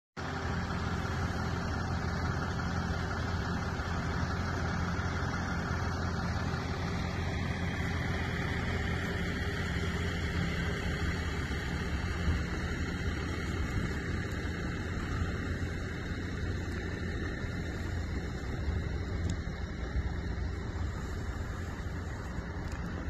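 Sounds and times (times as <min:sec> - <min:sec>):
truck engine and road drone: 0:00.2 - 0:23.0.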